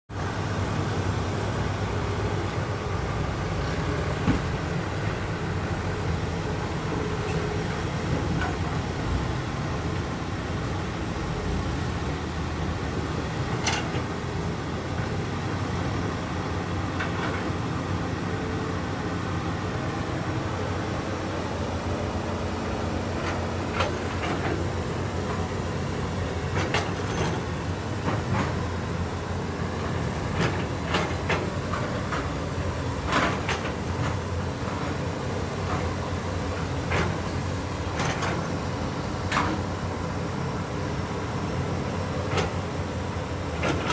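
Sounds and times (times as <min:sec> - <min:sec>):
diesel engine running: 0:00.1 - 0:43.9.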